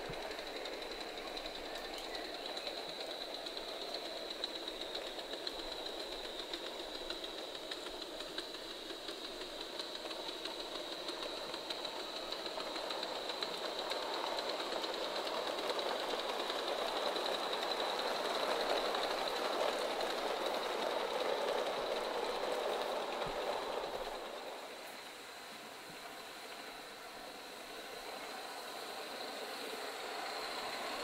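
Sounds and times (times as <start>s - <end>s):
model steam locomotive running: 0.0s - 31.0s.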